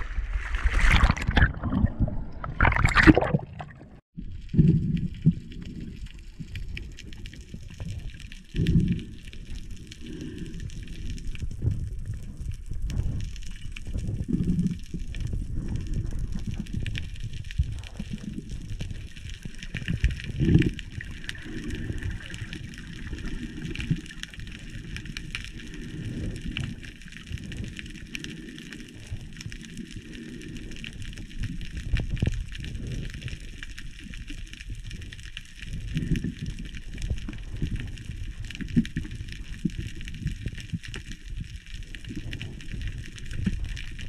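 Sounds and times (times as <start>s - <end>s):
muffled underwater water sloshing: 0.0s - 44.0s.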